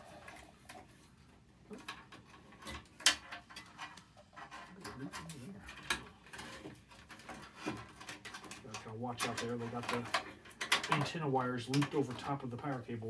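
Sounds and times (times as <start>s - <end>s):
clicks knocks and rustling: 1.7s - 12.8s.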